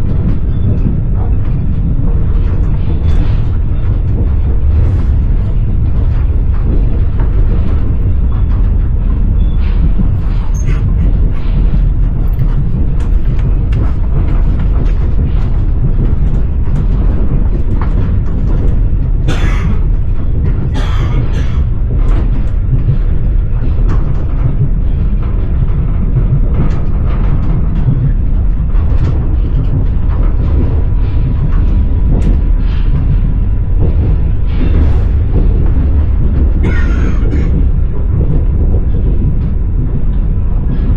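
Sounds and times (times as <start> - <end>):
train rumble inside carriage: 0.0 - 40.9.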